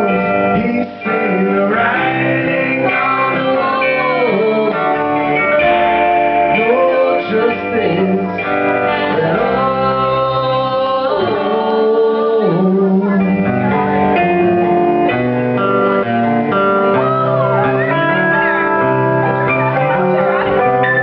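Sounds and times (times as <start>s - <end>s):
live band with guitars: 0.0s - 21.0s.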